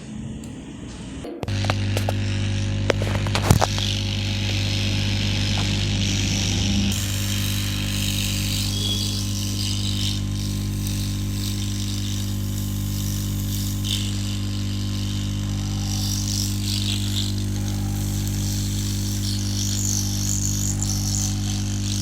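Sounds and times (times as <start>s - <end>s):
hot air gun blowing: 1.5s - 22.0s.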